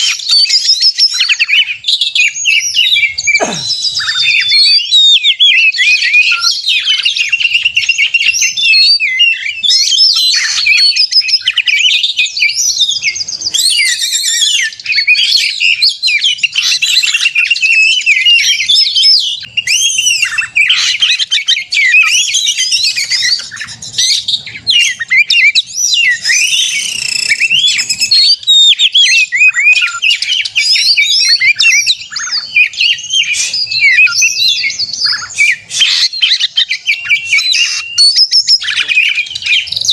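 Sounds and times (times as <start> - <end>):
bird singing whistles and chirps: 0.0 - 39.9.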